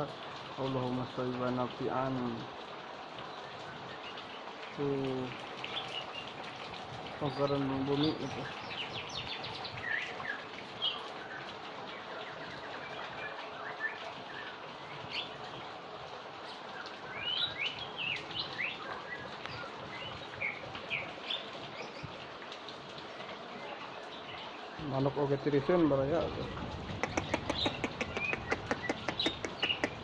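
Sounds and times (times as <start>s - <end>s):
heavy rain: 0.0s - 30.0s
small birds chirping: 3.2s - 30.0s.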